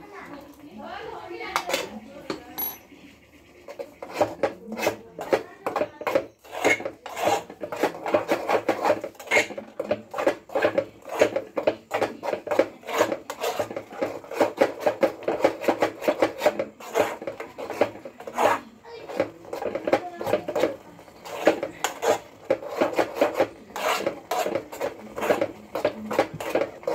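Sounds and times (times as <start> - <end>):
metal spoon scraping steel pot: 1.4 - 26.9.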